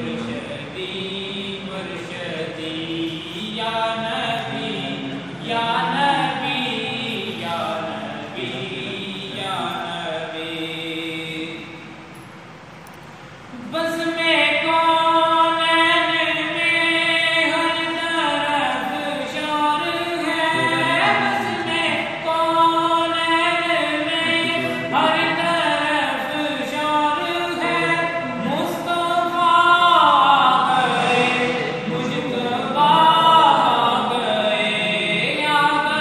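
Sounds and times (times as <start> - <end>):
man singing unaccompanied: 0.0 - 11.9, 13.5 - 36.0.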